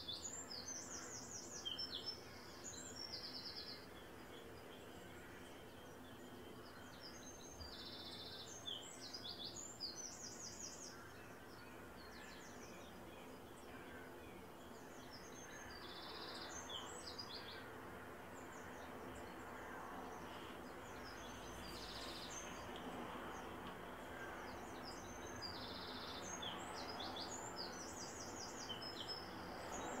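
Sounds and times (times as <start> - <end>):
songbird singing trills: 0.0 - 17.7, 20.3 - 30.0
faint steady hum: 0.0 - 30.0.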